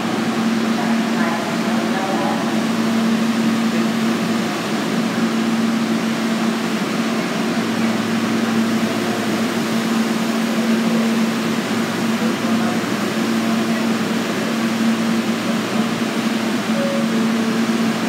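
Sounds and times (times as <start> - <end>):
fan-like equipment noise: 0.0 - 18.0
subway train humming: 0.0 - 18.0.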